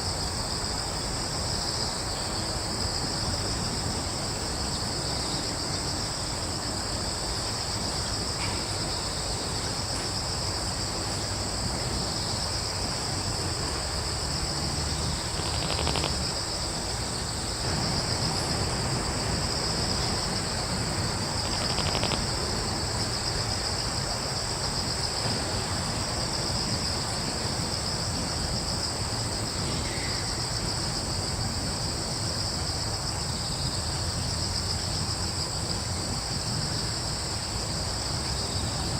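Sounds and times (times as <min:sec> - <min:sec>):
crickets chirring: 0:00.0 - 0:38.9.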